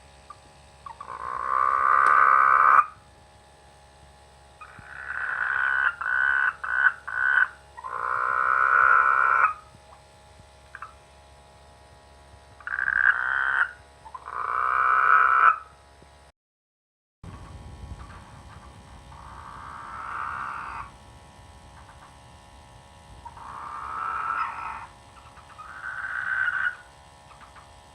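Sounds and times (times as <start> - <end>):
frogs croaking: 0.2 - 3.0, 4.6 - 11.2, 12.5 - 15.8, 17.3 - 27.9.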